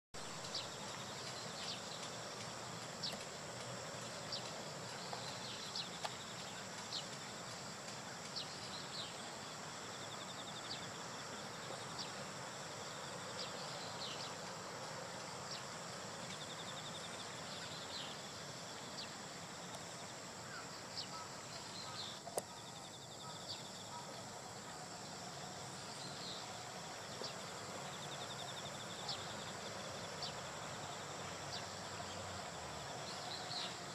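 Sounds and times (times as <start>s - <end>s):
constant high hiss: 0.2s - 33.9s.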